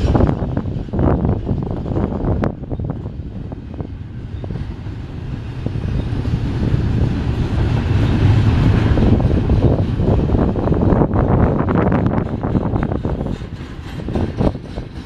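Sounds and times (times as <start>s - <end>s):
clicks and clanks of railcars: 0.0s - 15.0s
train wheels rumbling: 0.0s - 15.0s.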